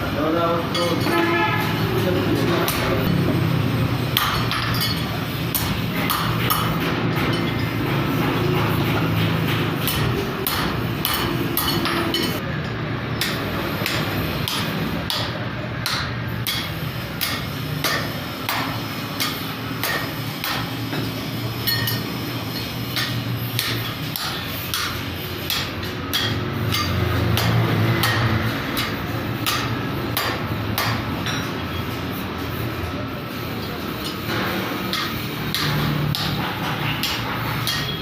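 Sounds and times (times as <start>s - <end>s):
hammer striking steel rod: 4.2s - 12.4s, 13.2s - 31.5s, 34.0s - 38.0s.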